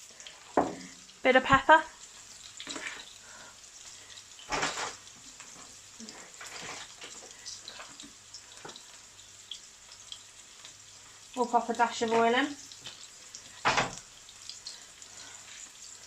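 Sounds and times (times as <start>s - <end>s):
burgers sizzling in a frying pan: 0.0s - 16.0s.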